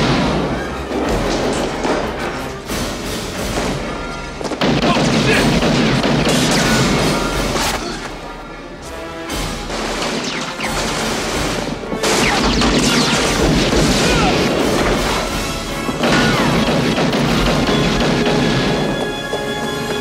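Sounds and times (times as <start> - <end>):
film music score: 0.0 - 20.0.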